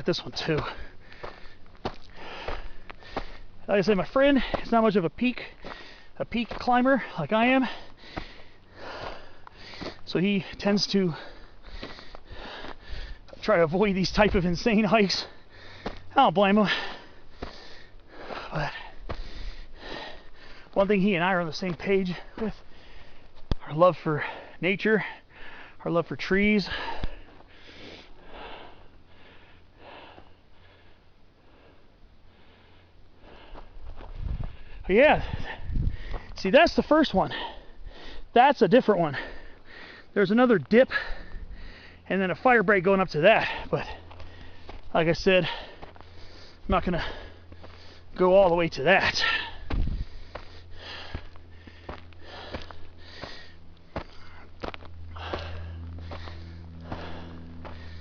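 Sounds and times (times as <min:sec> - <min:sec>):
footsteps ticking: 0:00.0 - 0:25.7, 0:26.6 - 0:30.4, 0:33.2 - 0:38.0, 0:39.1 - 0:58.0
person breathing hard: 0:00.5 - 0:03.7, 0:04.3 - 0:04.8, 0:05.4 - 0:06.2, 0:06.9 - 0:13.5, 0:15.0 - 0:20.8, 0:22.1 - 0:23.5, 0:24.2 - 0:25.8, 0:26.6 - 0:36.4, 0:37.2 - 0:38.4, 0:39.1 - 0:40.2, 0:40.9 - 0:42.1, 0:43.4 - 0:48.2, 0:49.1 - 0:58.0.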